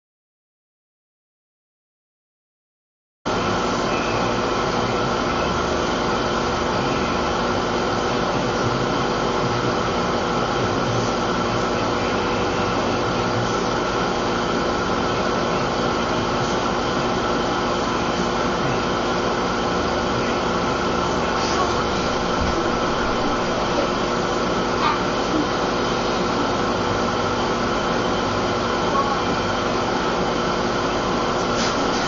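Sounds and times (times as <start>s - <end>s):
steady hum and hiss: 3.3s - 32.0s.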